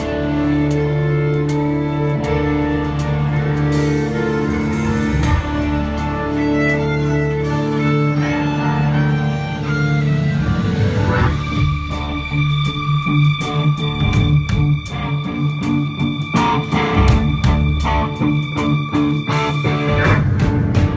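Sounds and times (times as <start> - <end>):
bass line: 0.0 - 20.9
live band playing amplified music: 0.0 - 20.9.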